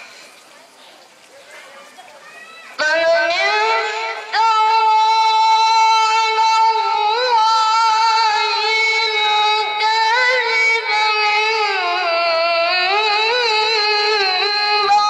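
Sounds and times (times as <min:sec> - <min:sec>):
child reciting melodically: 0:01.5 - 0:15.0.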